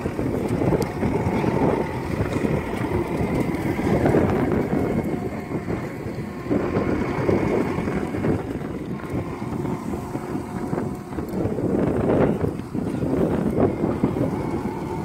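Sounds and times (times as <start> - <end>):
diesel engine under load: 0.0 - 15.0
wind buffeting microphone: 0.0 - 15.0.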